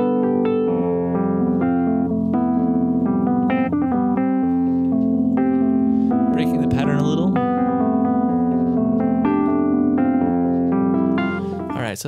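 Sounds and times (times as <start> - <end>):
piano playing: 0.0 - 12.0.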